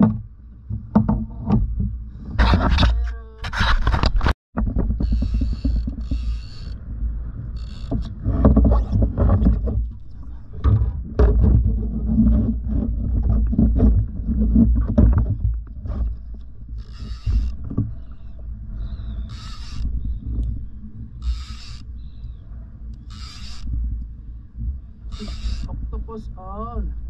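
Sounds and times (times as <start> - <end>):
wind and water rumble: 0.0 - 27.0.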